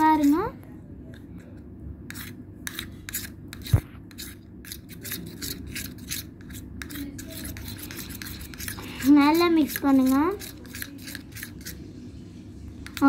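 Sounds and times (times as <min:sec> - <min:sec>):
spoon scraping wet mixture: 0:00.0 - 0:13.0.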